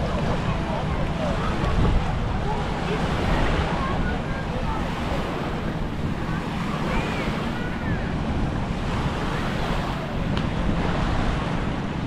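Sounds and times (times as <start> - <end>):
faint distant voices: 0.0 - 12.0
waves washing on beach: 0.0 - 12.0
wind buffeting microphone: 0.0 - 12.0.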